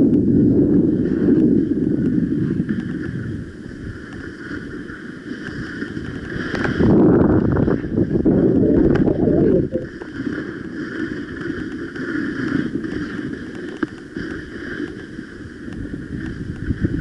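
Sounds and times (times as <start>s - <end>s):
skis scraping over crusted snow: 0.0s - 17.0s.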